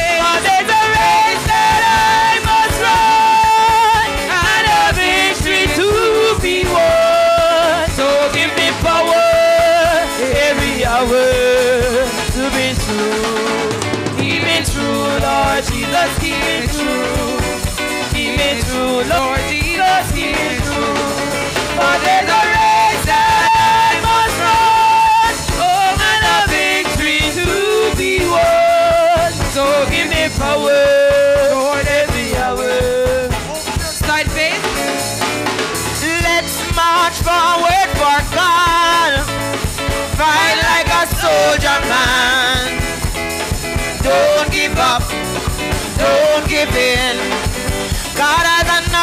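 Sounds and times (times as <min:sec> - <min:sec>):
congregation singing gospel: 0:00.0 - 0:49.0
live band accompaniment: 0:00.0 - 0:49.0.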